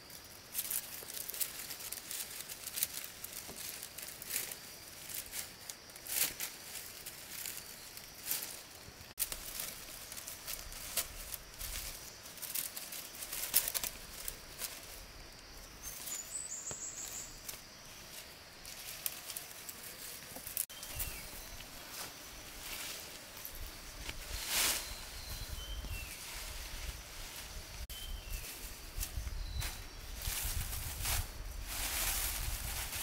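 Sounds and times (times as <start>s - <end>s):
rustling: 0.1s - 33.0s.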